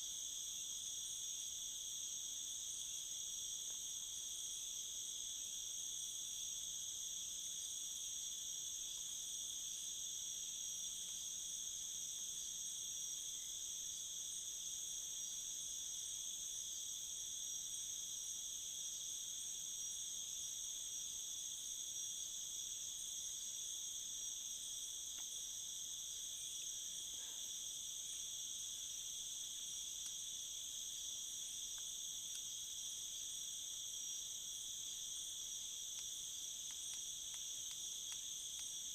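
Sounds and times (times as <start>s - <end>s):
insect chorus trilling: 4.2s - 38.9s.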